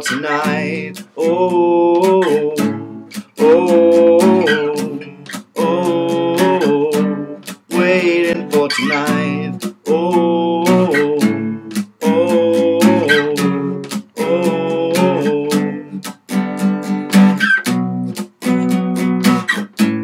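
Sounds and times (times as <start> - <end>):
person singing long notes: 0.0 - 16.0
strummed acoustic guitar: 0.0 - 20.0.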